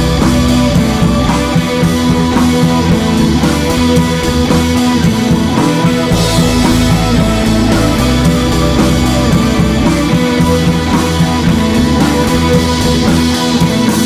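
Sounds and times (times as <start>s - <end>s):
rock music with guitar and drums: 0.0s - 14.0s.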